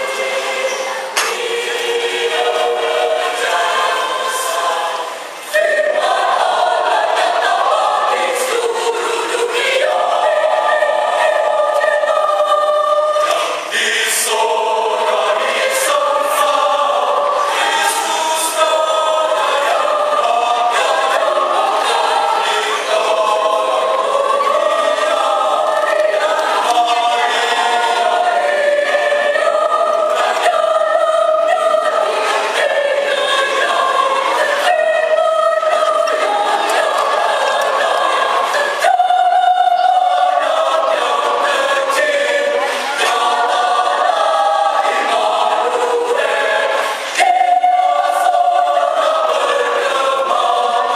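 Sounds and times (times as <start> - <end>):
mixed choir singing a hymn: 0.0 - 50.9.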